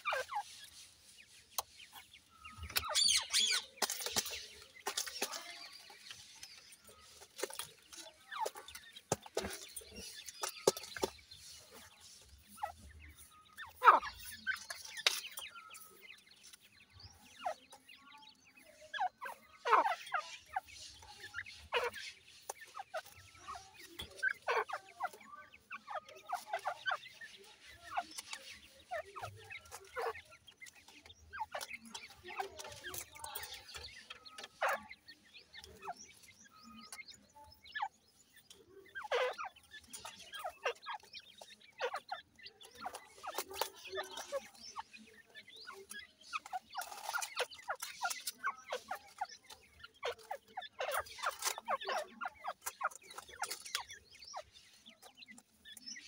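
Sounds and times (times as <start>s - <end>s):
chicks peeping and clucking: 0.0s - 56.0s.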